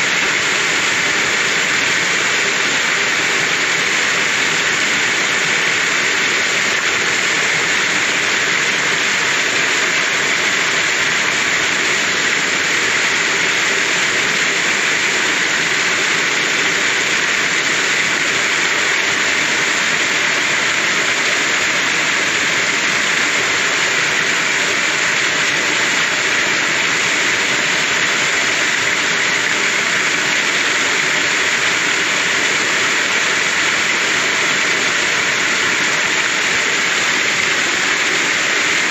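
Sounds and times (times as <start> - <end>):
waterfall splashing onto boulders: 0.0 - 38.9.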